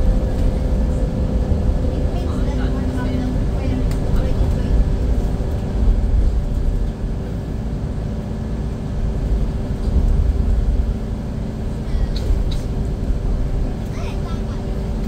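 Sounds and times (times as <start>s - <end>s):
coach engine and road rumble: 0.0s - 15.0s
constant hum: 0.0s - 15.0s.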